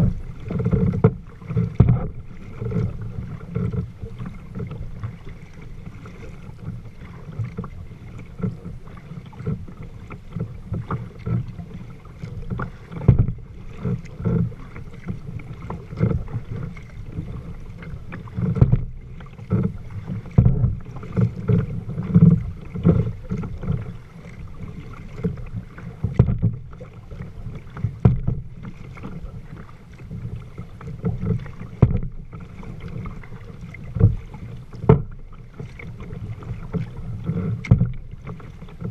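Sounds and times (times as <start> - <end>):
water slaps: 0.0 - 38.9
water sloshing against kayak hull: 0.0 - 38.9.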